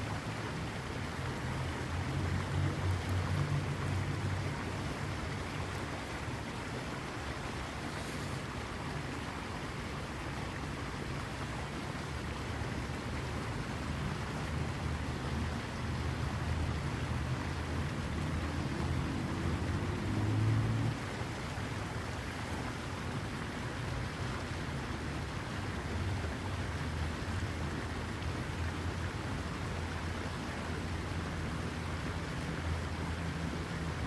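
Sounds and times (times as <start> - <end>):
waterfall rushing water: 0.0 - 34.0.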